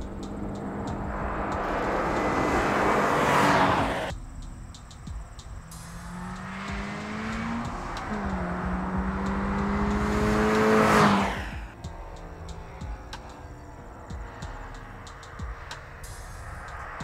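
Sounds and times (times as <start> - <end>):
car engine accelerating past: 0.0 - 17.0.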